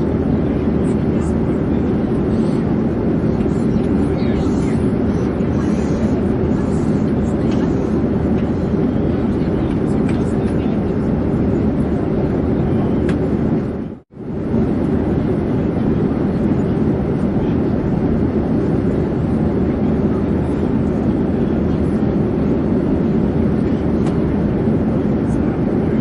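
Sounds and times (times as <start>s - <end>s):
airplane in flight drone: 0.0s - 26.0s.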